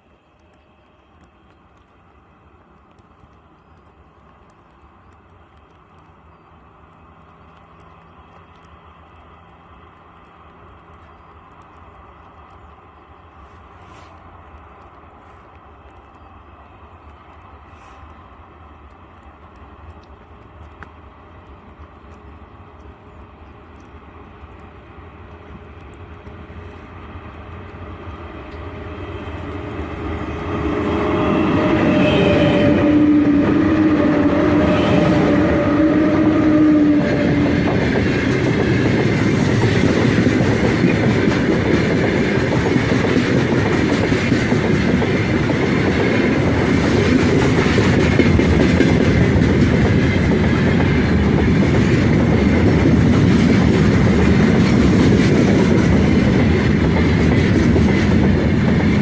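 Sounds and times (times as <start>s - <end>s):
train wheels clickety-clack: 2.6s - 59.0s
electric locomotive humming: 3.9s - 59.0s.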